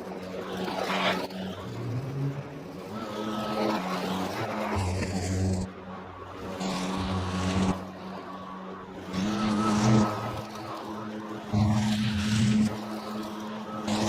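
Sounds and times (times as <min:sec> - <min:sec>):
electric lawnmower running: 0:00.0 - 0:14.0.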